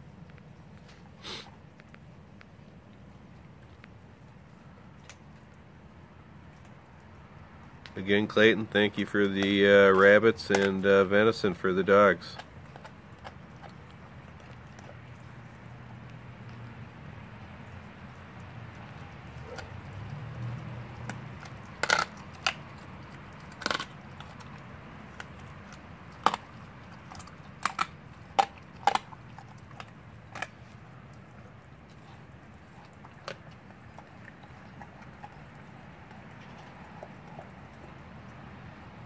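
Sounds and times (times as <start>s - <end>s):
dog crunching bones: 0.0s - 39.0s.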